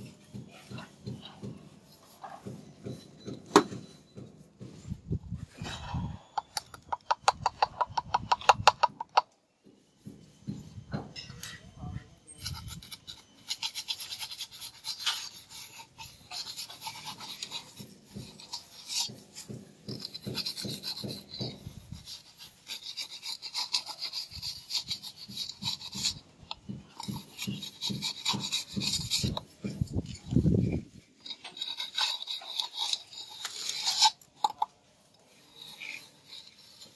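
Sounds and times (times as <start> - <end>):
hand tool scraping mortar: 0.0 - 9.2, 12.3 - 36.9.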